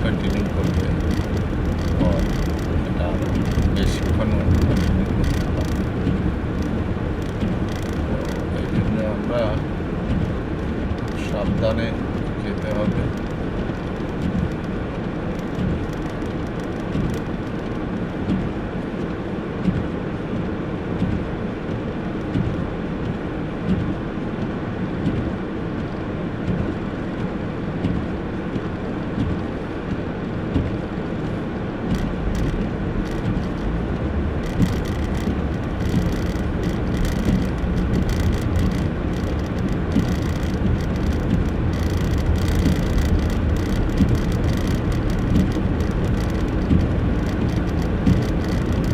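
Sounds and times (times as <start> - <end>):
car driving on snowy road: 0.0 - 48.9.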